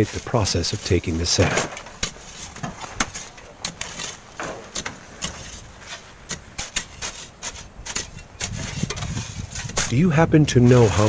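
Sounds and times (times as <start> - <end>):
shovels and crowbar digging sand: 0.0 - 11.0.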